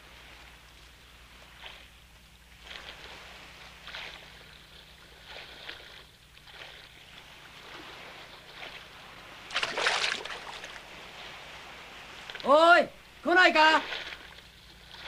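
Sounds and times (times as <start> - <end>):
low steady hum: 0.0 - 15.0
water lapping against boat hull: 0.0 - 15.0.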